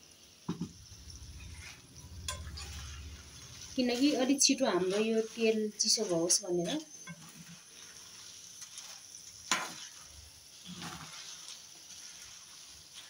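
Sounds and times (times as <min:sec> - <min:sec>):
chillies sizzling in oil: 0:00.0 - 0:13.0
spatula scraping pan: 0:00.8 - 0:13.0.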